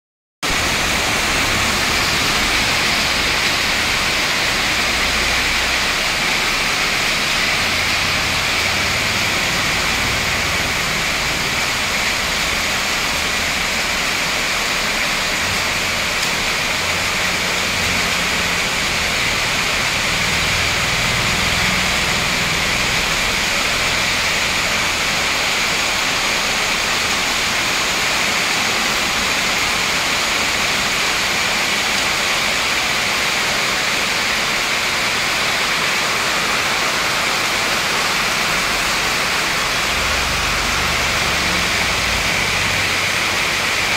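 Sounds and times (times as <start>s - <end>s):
heavy rain pouring: 0.4s - 43.9s.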